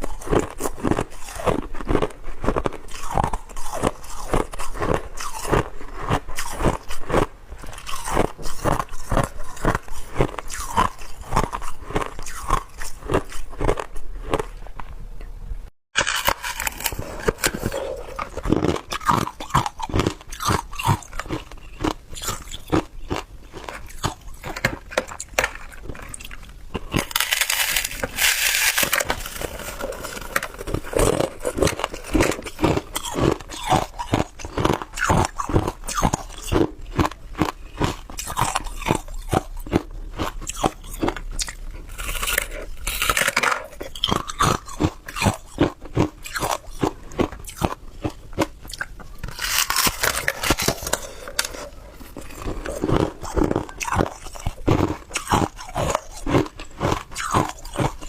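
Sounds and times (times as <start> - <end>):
ice cubes crunching between teeth: 0.0 - 14.6, 16.0 - 58.0.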